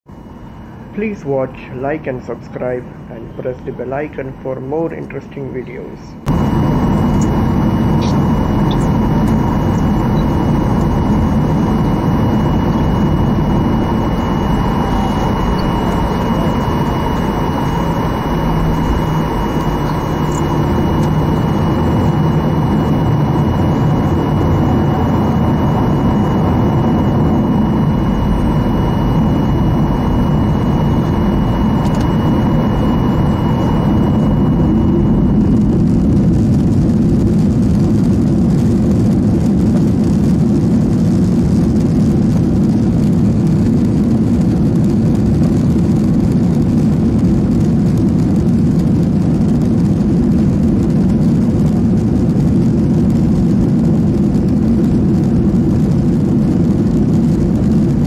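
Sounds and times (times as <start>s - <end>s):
jet engine roar in cabin: 0.1s - 58.0s
thin high whine: 0.1s - 58.0s.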